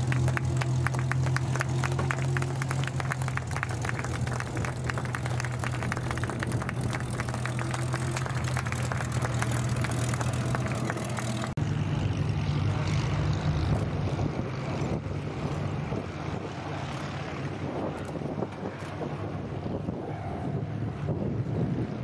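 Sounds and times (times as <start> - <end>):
plane engine droning: 0.0 - 22.0
propeller plane engine crackling: 0.0 - 22.0.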